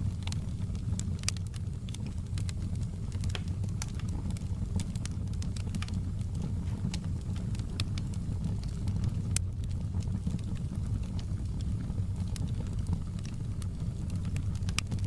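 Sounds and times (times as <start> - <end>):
fire snapping and popping: 0.0 - 15.0.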